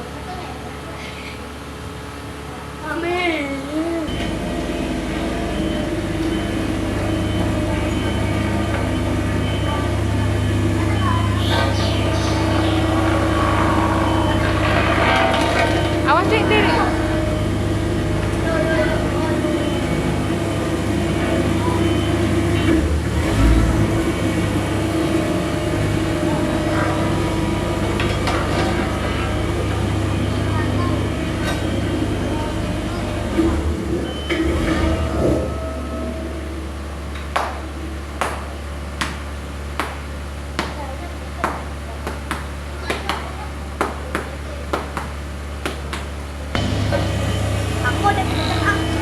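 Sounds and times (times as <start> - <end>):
diesel engine rumbling: 0.0 - 49.0.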